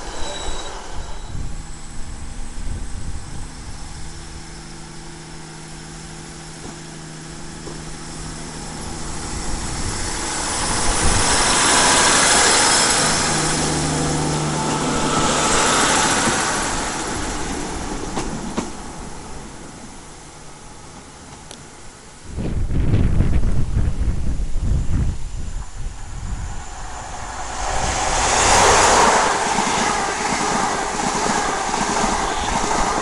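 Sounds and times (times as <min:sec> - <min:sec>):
train passing close by: 0:00.0 - 0:33.0.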